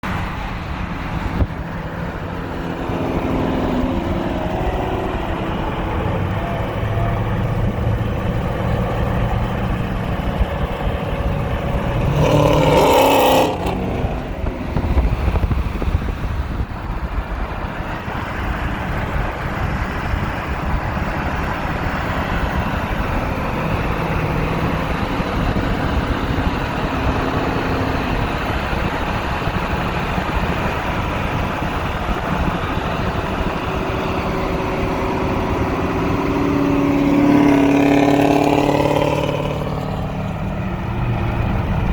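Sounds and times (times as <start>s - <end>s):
car exhaust drone: 0.0s - 41.9s.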